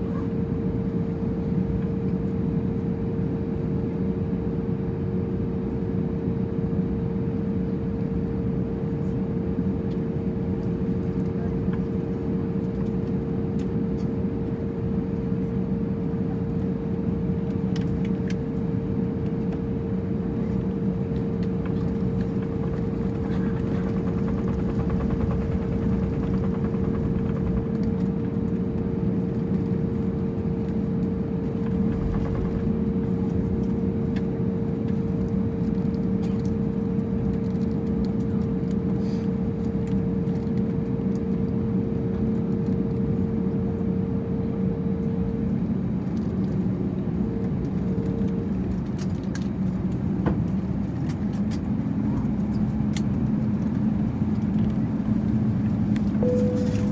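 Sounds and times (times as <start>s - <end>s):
airplane cabin rumble and hum: 0.0s - 56.9s.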